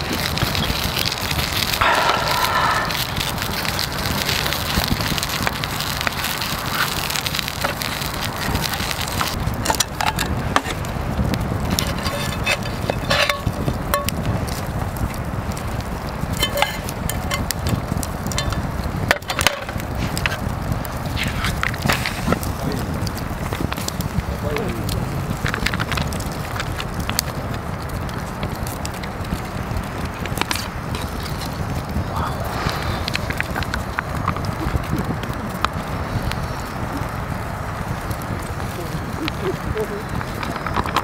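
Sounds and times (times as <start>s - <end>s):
campfire crackling: 0.0s - 41.0s
sharp pops of fire: 0.0s - 41.0s.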